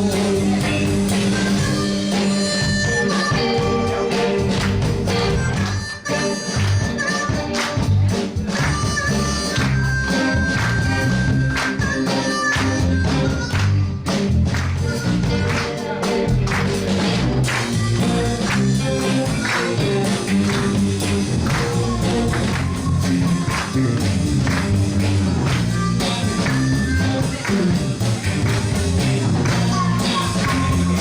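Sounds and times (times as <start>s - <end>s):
blues band playing: 0.0s - 31.0s
harmonica lead with bent notes: 0.0s - 31.0s.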